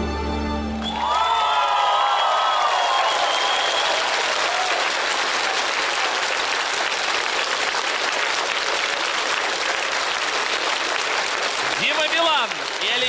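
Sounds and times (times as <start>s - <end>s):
audience applauding: 0.7s - 13.0s
people cheering: 0.7s - 13.0s.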